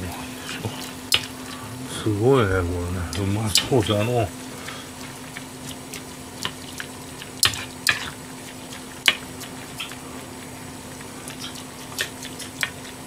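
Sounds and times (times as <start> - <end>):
liquid sloshing: 0.0 - 13.0.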